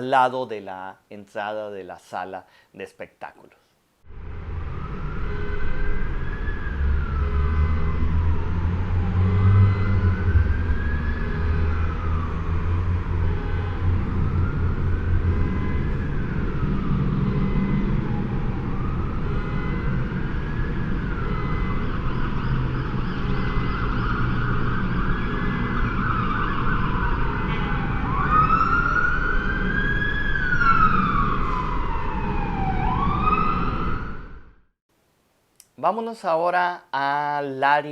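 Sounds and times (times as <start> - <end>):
emergency siren wailing: 4.1 - 34.7.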